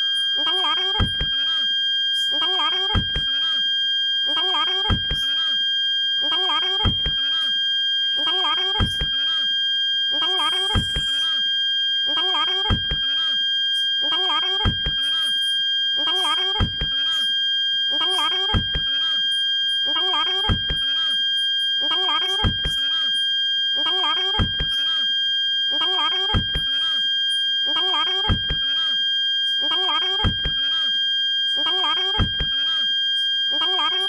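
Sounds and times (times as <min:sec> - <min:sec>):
parking sensor buzzer tone: 0:00.0 - 0:34.0.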